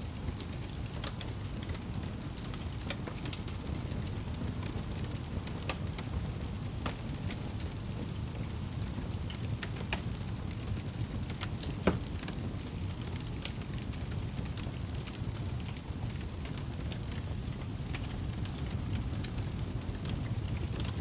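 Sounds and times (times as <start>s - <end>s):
fire crackles and snaps: 0.0s - 21.0s
low rumble of flames: 0.0s - 21.0s.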